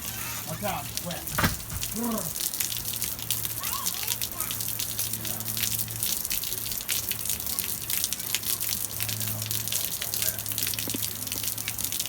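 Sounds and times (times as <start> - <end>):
heavy rain pouring: 0.0 - 12.0
running water: 0.0 - 12.0.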